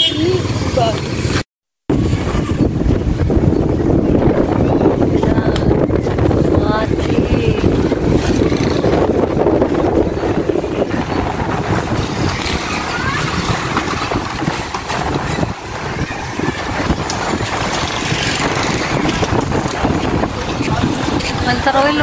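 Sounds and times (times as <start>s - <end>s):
strong wind buffeting microphone: 0.3s - 22.0s.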